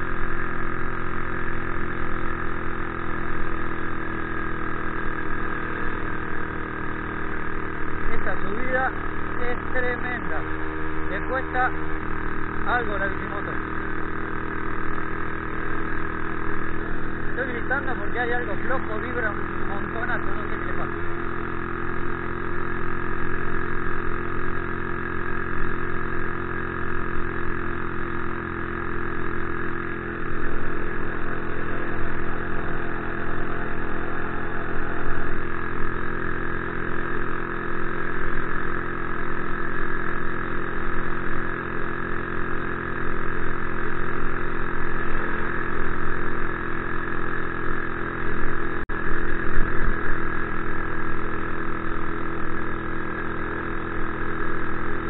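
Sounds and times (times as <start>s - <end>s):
small engine droning: 0.0s - 55.0s.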